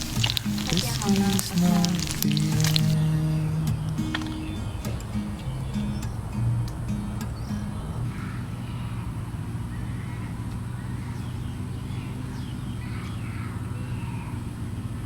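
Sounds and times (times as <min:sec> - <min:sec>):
birds chirping and whistling: 0:00.0 - 0:03.0, 0:03.8 - 0:14.5.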